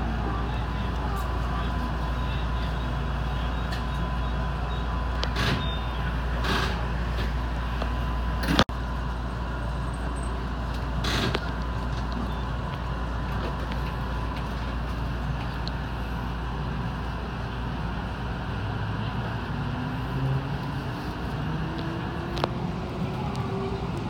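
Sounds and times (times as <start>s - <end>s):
train wheels and motors rumbling: 0.0s - 24.0s.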